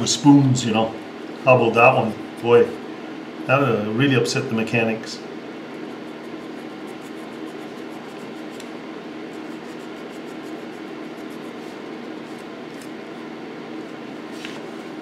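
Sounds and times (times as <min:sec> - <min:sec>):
electric fan hissing: 0:00.0 - 0:15.0.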